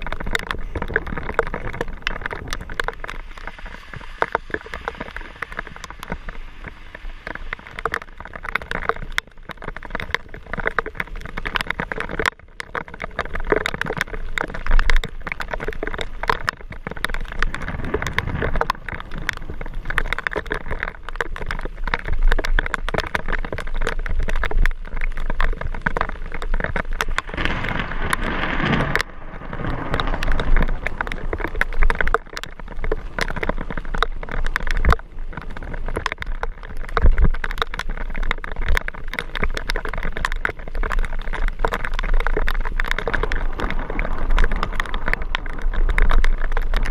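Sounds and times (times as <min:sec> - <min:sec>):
bicycle riding on wet road: 0:00.0 - 0:46.9
rain pattering on camera housing: 0:00.0 - 0:46.9
wind rumble on camera: 0:00.0 - 0:46.9.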